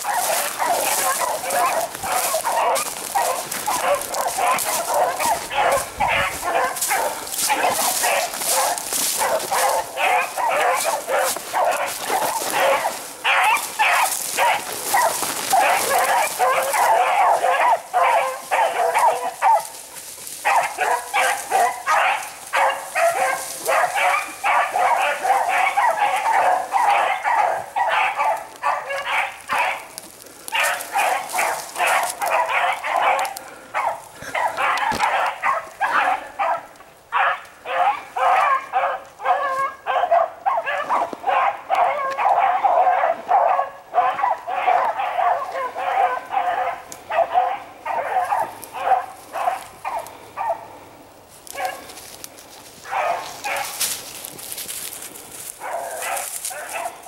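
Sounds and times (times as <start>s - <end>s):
hounds barking and baying: 0.0s - 57.0s.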